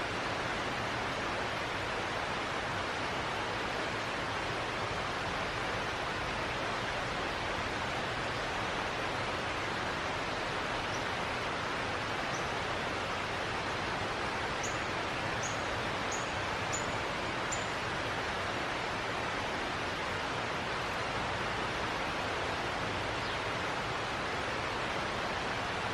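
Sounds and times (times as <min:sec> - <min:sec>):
steady outdoor hiss: 0:00.0 - 0:25.9.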